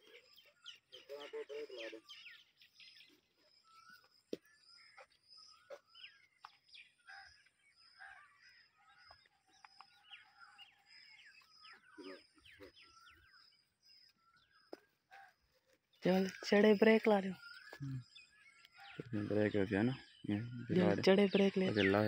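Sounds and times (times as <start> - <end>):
faint birdsong: 0.0 - 22.0.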